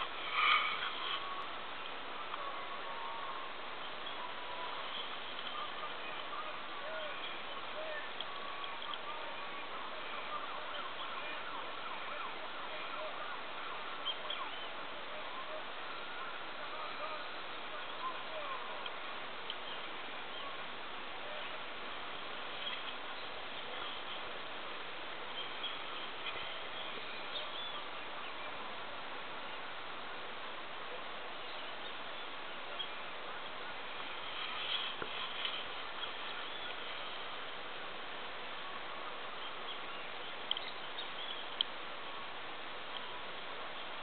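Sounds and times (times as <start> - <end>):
outdoor hiss: 0.0 - 44.0.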